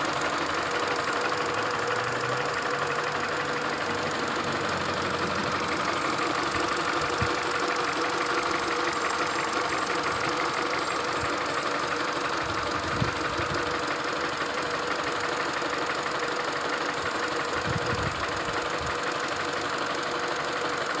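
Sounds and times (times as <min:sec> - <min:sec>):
car engine idling: 0:00.0 - 0:21.0
fast light engine ticking: 0:00.0 - 0:21.0.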